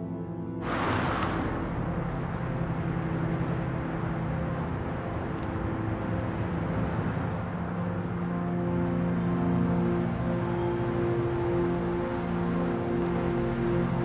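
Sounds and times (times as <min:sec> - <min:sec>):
minivan driving past: 0:00.6 - 0:14.0
street traffic noise: 0:00.6 - 0:14.0.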